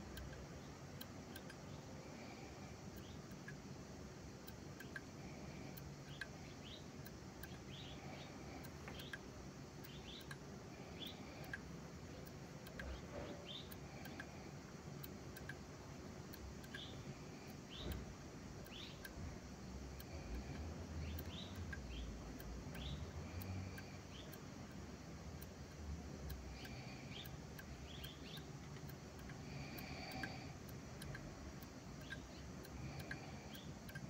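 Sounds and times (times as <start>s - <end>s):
faint birds chirping: 0.0s - 34.0s
low steady background: 0.0s - 34.0s.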